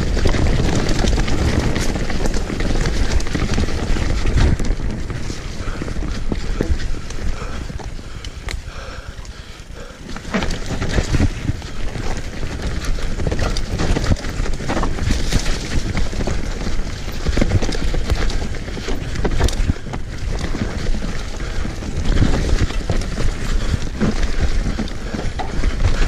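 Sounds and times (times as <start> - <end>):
bike rattling over roots and rocks: 0.0 - 26.0
tyre noise: 0.0 - 26.0.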